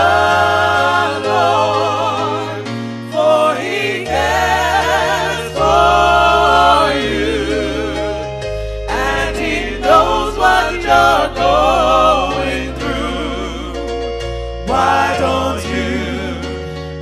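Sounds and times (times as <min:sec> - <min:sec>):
bass notes: 0:00.0 - 0:17.0
voices singing gospel: 0:00.0 - 0:17.0.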